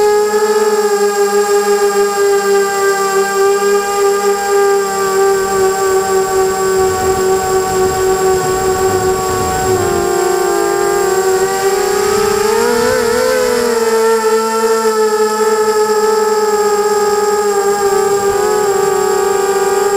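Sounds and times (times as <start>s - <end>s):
quadcopter motors whining: 0.0s - 19.9s.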